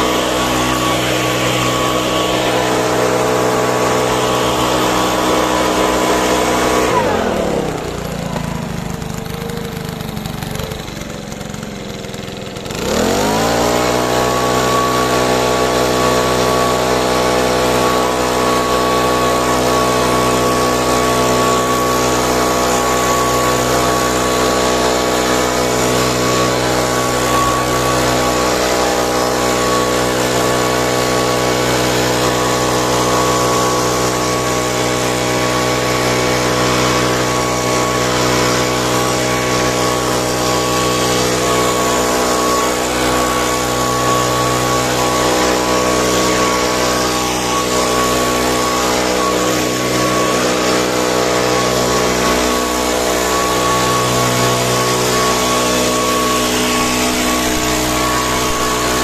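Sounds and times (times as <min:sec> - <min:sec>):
small petrol engine revving and idling: 0:00.0 - 0:59.0.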